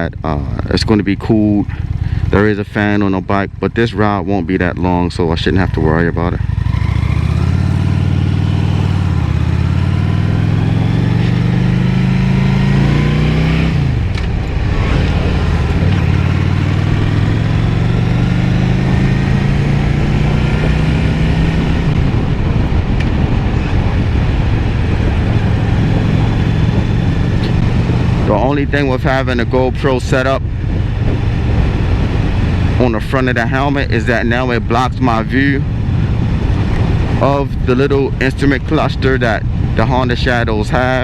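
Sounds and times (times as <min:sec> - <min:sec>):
motorcycle engine accelerating: 0:00.0 - 0:41.0
wind rushing over microphone: 0:00.0 - 0:41.0.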